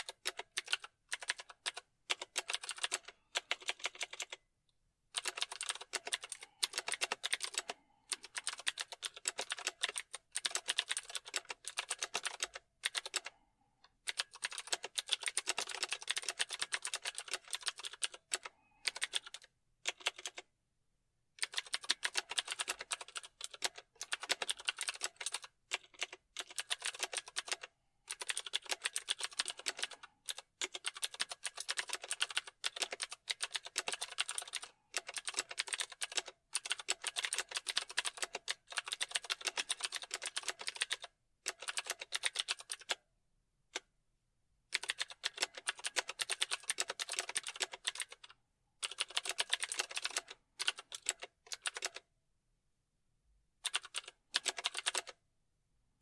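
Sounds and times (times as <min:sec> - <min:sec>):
typing on a keyboard: 0:00.0 - 0:04.4, 0:05.1 - 0:20.5, 0:21.4 - 0:43.1, 0:44.7 - 0:52.1, 0:53.6 - 0:55.2.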